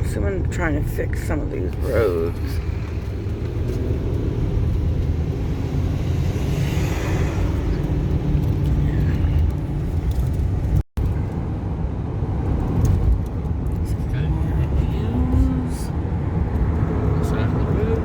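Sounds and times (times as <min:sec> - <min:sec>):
van engine and road rumble: 0:00.0 - 0:18.0.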